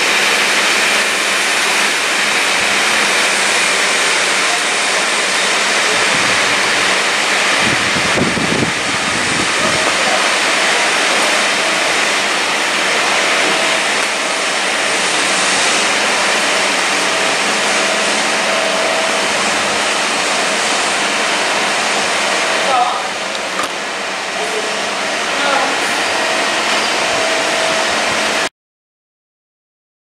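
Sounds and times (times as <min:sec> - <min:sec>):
train wheels rushing on rail: 0:00.0 - 0:28.5.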